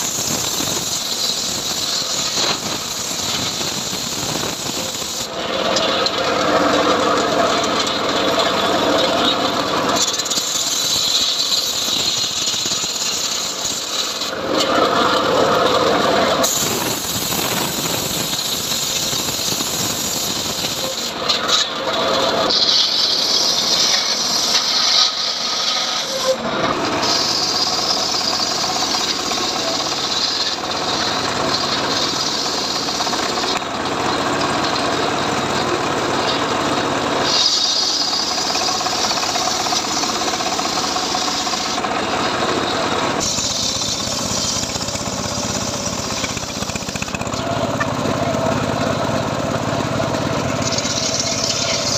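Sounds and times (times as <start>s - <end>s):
saw cutting wood hiss: 0.0s - 35.4s, 36.3s - 47.8s, 50.0s - 51.9s
engine-driven saw running: 0.0s - 51.9s.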